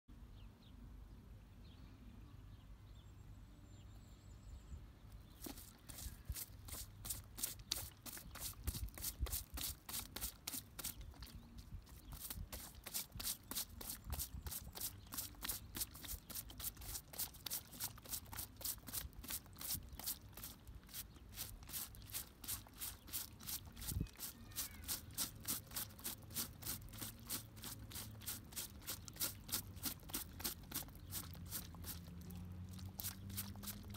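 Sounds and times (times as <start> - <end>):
brush scrubbing boot sole: 5.3 - 33.9.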